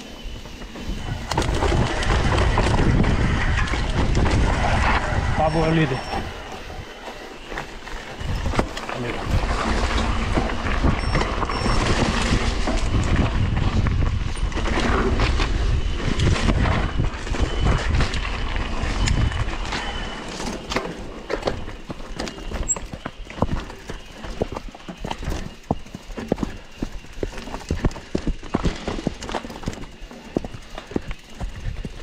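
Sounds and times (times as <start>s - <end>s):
wind buffeting microphone: 0.0s - 20.1s, 21.7s - 32.0s
bike rattling over bumps: 0.0s - 32.0s
tyres rumbling over dirt: 0.0s - 32.0s.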